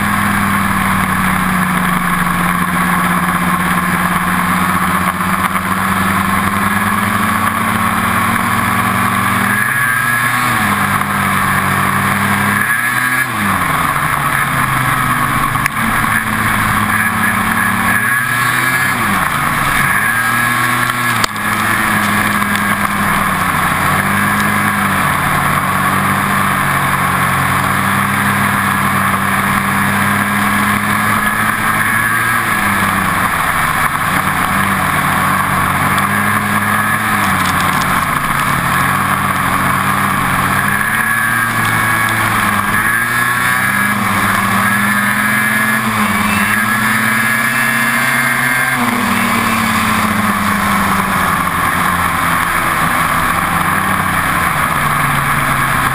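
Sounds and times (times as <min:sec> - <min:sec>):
snowmobile engine running: 0:00.0 - 0:55.9.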